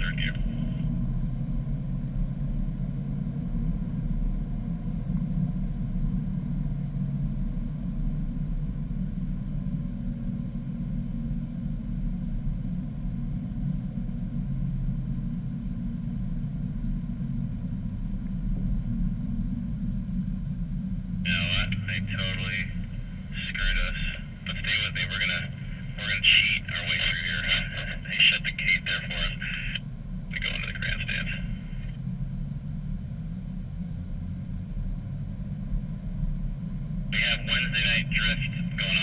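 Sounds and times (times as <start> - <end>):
car engine drone: 0.0 - 39.0
road noise inside car: 0.0 - 39.0.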